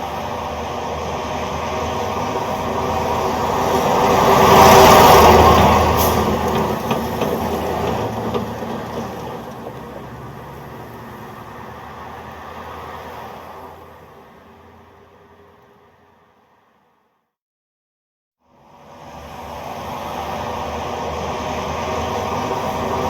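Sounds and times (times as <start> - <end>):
vehicle driving past: 0.0 - 17.0, 18.6 - 23.0.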